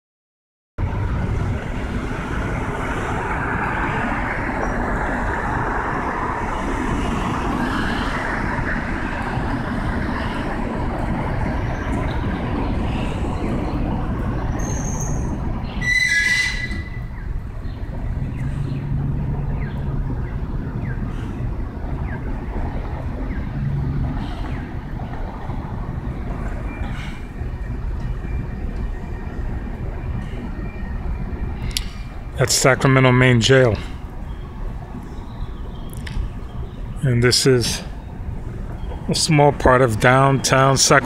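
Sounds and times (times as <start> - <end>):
street traffic rumble: 0.8 - 41.0.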